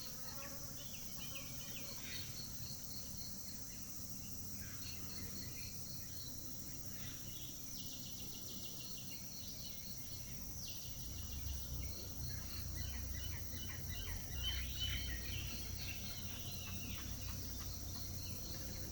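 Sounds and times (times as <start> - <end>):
pulsing insect chirp: 0.0 - 18.9.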